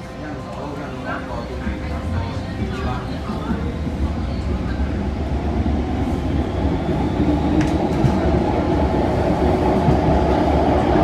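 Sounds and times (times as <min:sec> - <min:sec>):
train wheels rumbling: 0:01.3 - 0:11.0.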